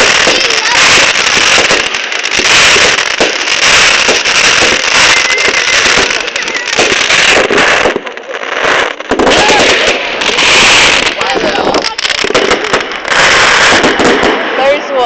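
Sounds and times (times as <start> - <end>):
fireworks crackling bangs: 0.0 - 15.0.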